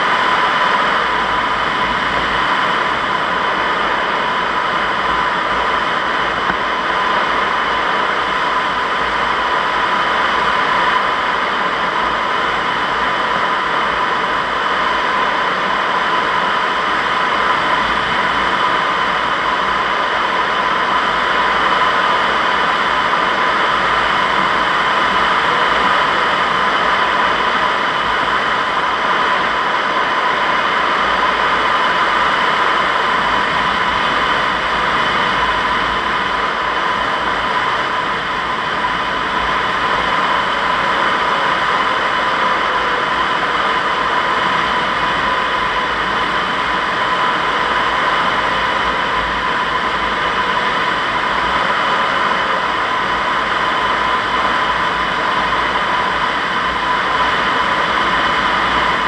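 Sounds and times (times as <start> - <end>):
airflow rushing around cockpit: 0.0 - 59.0.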